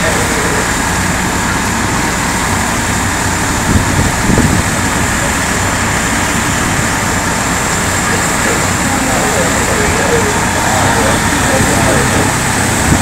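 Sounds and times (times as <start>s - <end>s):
fire engines running: 0.0s - 13.0s.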